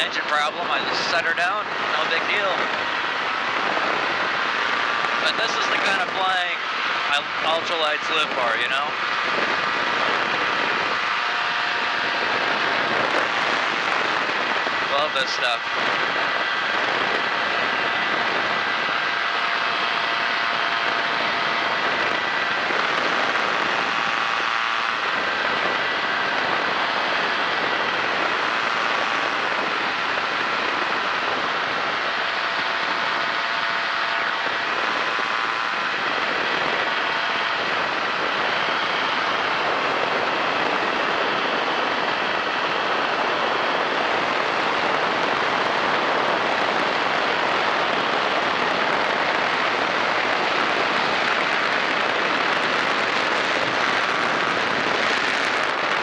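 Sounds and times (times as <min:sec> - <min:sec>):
airplane engine and propeller drone: 0:00.0 - 0:56.0.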